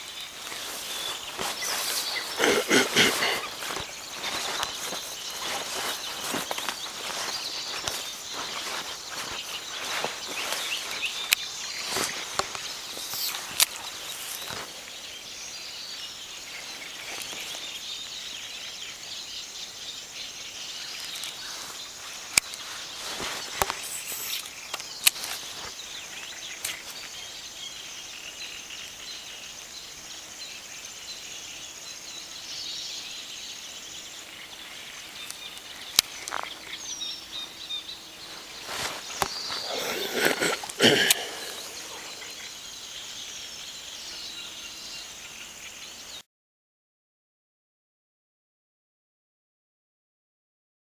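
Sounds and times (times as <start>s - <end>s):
birds chirping: 0.0s - 46.2s
insects buzzing: 0.0s - 46.2s.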